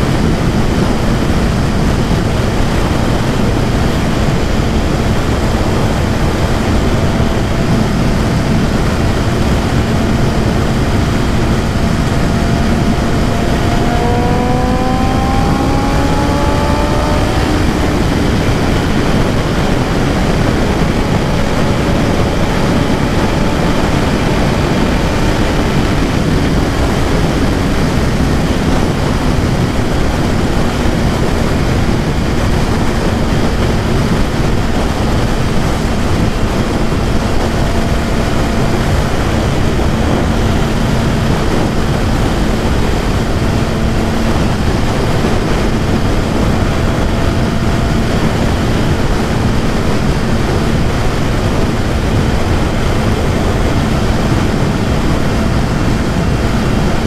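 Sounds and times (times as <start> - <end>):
motorcycle engine accelerating: 0.0 - 57.0
wind rush over microphone: 0.0 - 57.0.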